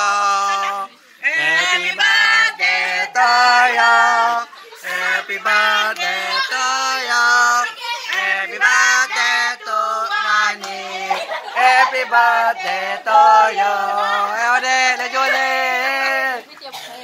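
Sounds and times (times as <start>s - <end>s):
people singing together: 0.0s - 16.8s.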